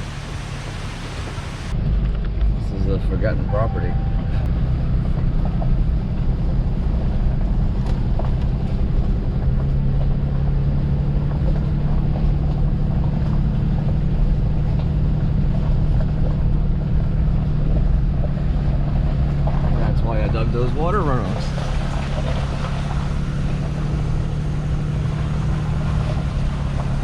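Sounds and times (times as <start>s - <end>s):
road rumble: 0.0s - 27.0s
vehicle engine droning: 0.0s - 27.0s.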